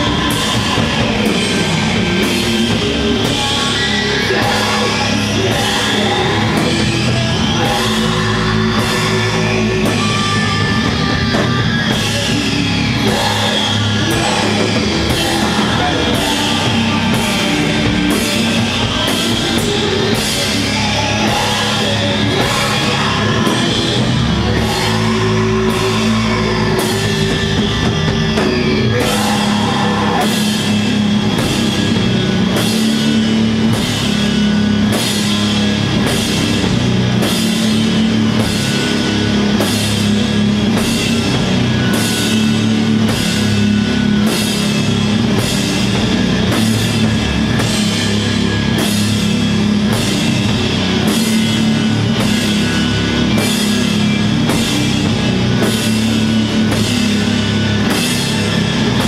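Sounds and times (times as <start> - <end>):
drum and cymbal hits: 0.0 - 59.0
metal band playing live: 0.0 - 59.0.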